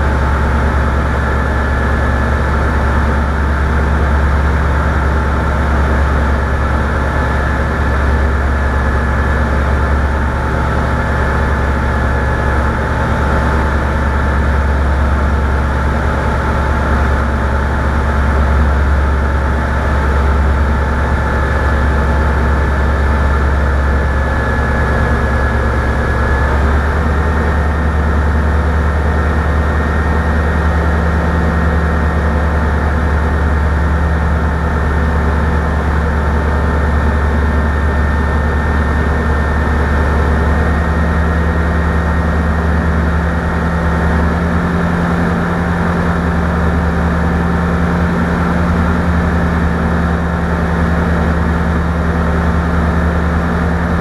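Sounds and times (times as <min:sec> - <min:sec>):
engine running with low hum: 0:00.0 - 0:54.0.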